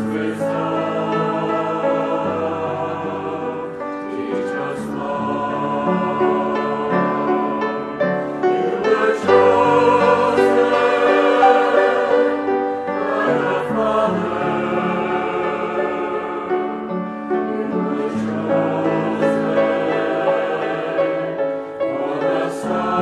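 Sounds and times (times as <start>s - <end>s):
choir singing a hymn: 0.0s - 23.0s.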